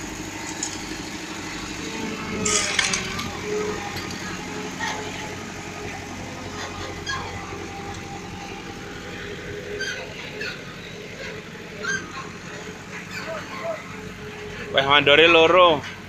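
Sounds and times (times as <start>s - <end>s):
road roller diesel engine: 0.0s - 16.0s.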